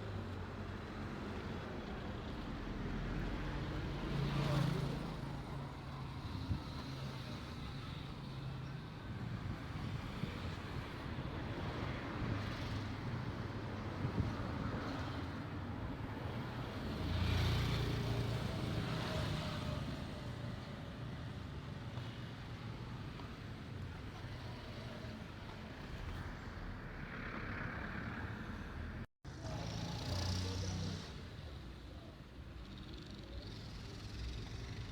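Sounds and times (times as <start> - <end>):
traffic passing: 0.0 - 34.9.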